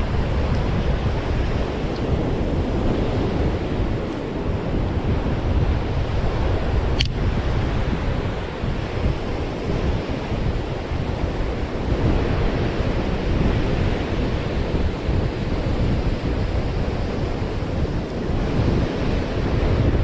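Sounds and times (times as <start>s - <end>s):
ocean surf washing onto beach: 0.0s - 20.0s
wind buffeting microphone: 0.0s - 20.0s.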